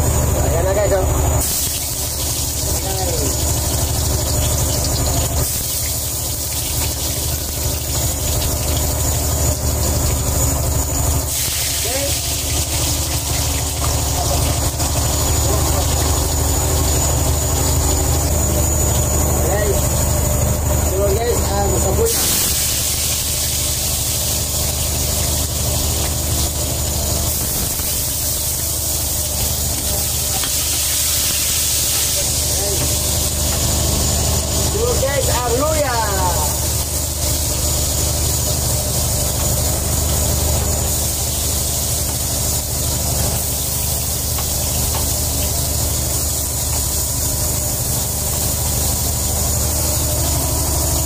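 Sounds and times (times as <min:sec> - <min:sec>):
garlic sizzling in hot oil: 0:01.4 - 0:51.0.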